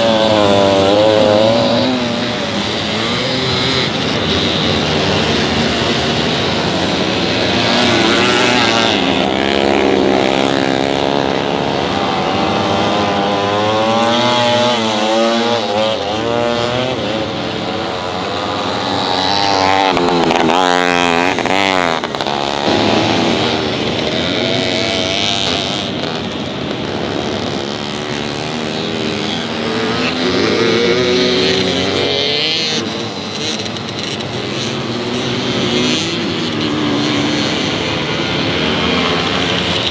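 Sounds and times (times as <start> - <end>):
two-stroke motorcycles racing past: 0.0 - 39.9.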